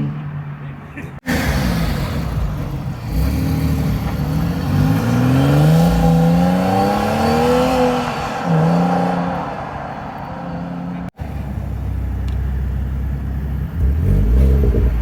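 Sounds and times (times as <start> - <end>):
car engine accelerating: 1.2 - 15.0.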